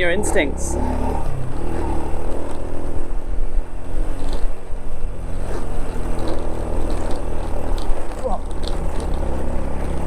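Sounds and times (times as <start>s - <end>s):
motorbike engine running: 0.0s - 10.0s.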